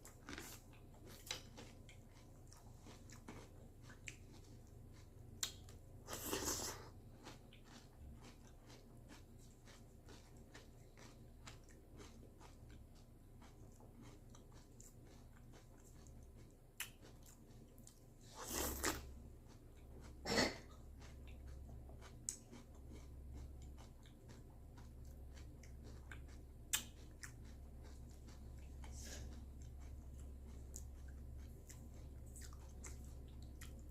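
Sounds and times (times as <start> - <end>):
crunchy cereal being chewed: 0.0 - 33.9
faint low hum: 0.0 - 33.9.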